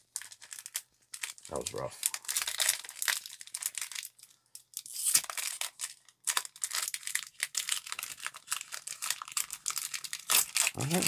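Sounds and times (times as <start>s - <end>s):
foil wrapper crinkling: 0.0s - 11.0s
foil wrapper tearing: 0.0s - 11.0s.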